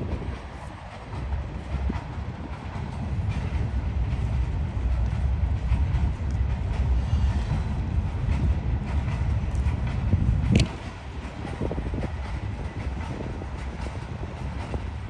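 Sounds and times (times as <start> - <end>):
freight train cars rumbling: 0.0 - 15.0
train wheels clacking: 0.0 - 15.0.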